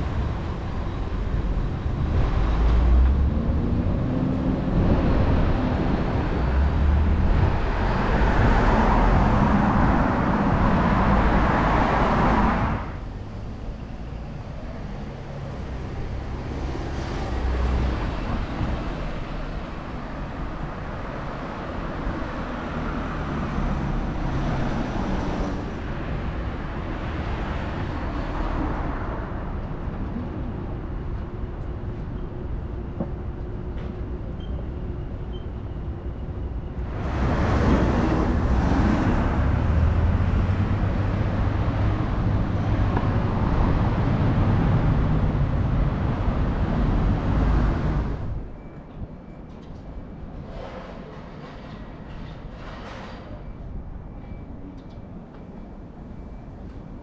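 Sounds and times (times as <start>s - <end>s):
vehicles passing: 0.0s - 57.0s.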